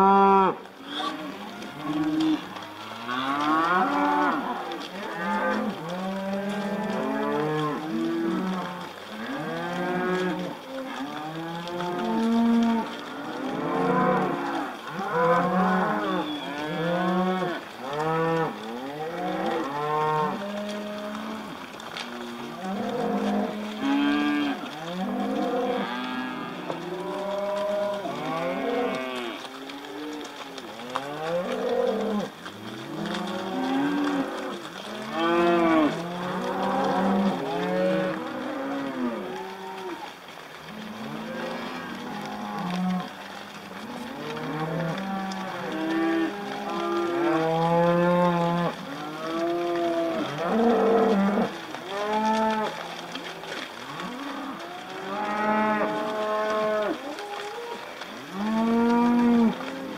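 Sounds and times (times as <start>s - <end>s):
cattle mooing: 0.0s - 59.9s.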